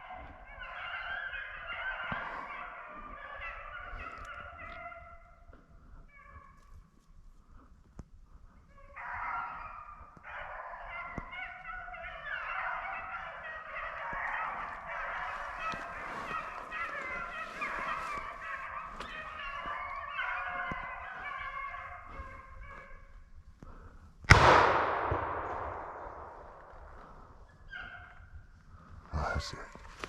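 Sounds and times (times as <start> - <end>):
hounds baying: 0.0 - 7.0, 8.6 - 24.1, 24.7 - 30.0.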